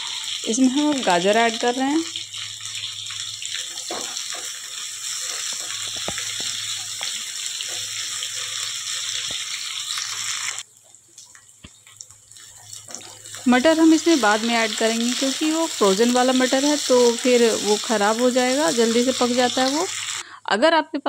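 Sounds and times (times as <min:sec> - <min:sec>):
vegetables sizzling in oil: 0:00.0 - 0:20.2.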